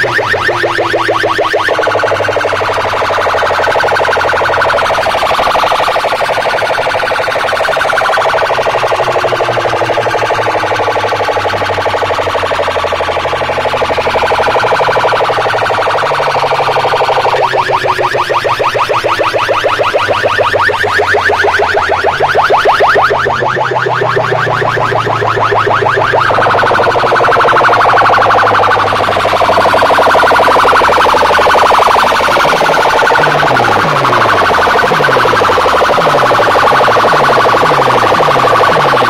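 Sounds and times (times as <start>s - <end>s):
electronic siren warbling: 0.0s - 39.0s
rising electronic chirps: 0.0s - 39.0s.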